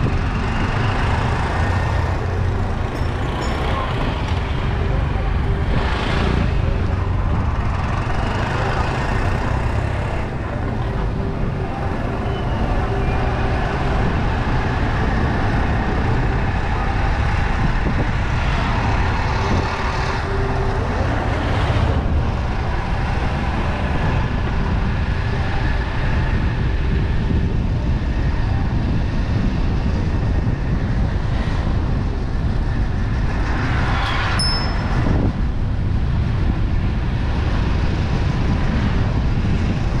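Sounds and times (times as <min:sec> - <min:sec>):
car driving on road rumble: 0:00.0 - 0:40.0.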